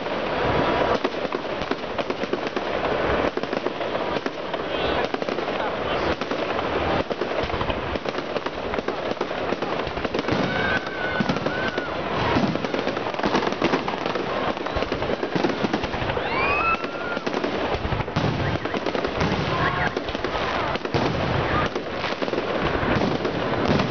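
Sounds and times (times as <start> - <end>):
firework whistles: 0.0 - 23.9
fireworks crackling and banging: 0.0 - 23.9.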